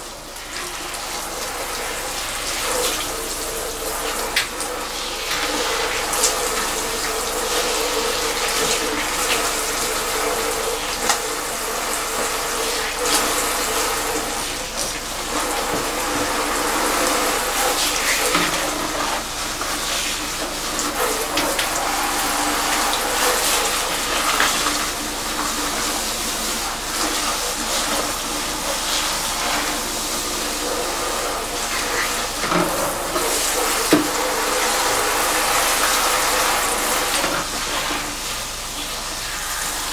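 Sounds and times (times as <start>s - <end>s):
shower sprayer water spraying: 0.0s - 39.9s.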